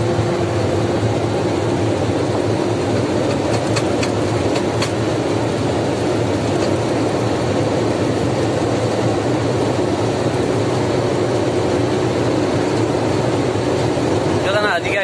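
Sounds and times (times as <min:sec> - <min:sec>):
lorry engine and road noise: 0:00.0 - 0:15.0.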